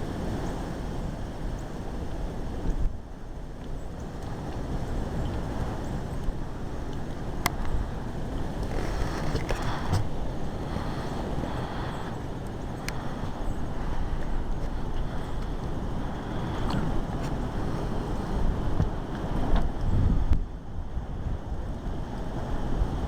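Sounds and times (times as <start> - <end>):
strong wind gusting on microphone: 0.0 - 23.0.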